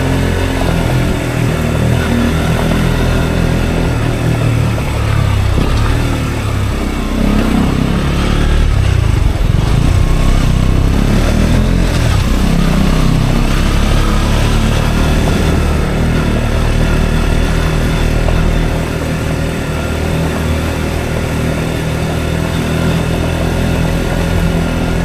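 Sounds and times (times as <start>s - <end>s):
motorcycle engine drone: 0.0s - 25.0s.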